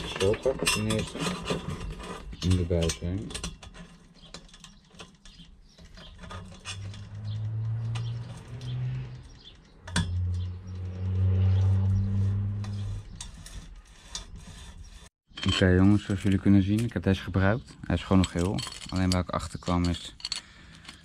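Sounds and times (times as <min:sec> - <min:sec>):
pipe cutter clicking and scraping: 0:00.0 - 0:17.0.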